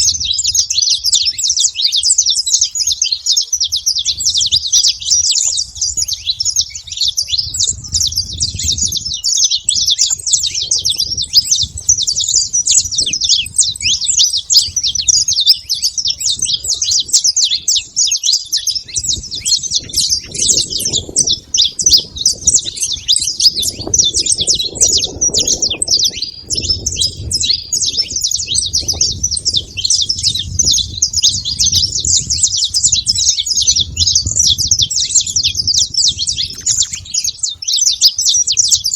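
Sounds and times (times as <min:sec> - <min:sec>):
bird singing rapid high chirps: 0:00.0 - 0:38.9.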